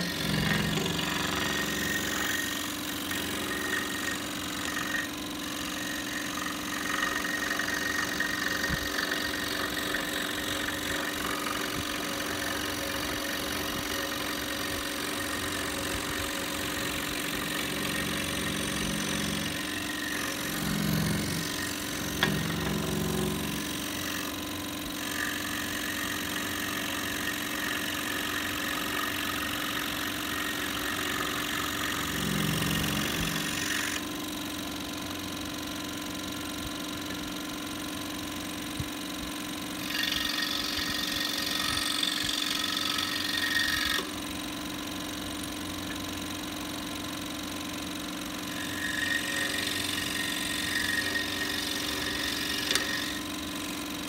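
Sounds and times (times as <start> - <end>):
saw blade cutting wood: 0.0 - 34.7, 39.7 - 44.3, 47.6 - 54.0
scroll saw motor hum: 0.0 - 54.0.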